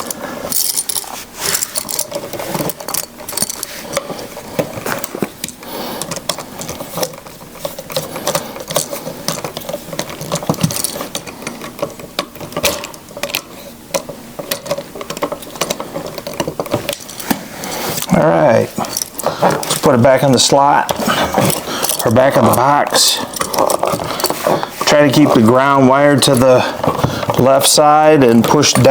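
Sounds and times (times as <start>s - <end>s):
screwdriver clicking and rattling: 0.0s - 18.2s, 18.8s - 19.9s, 20.9s - 28.9s.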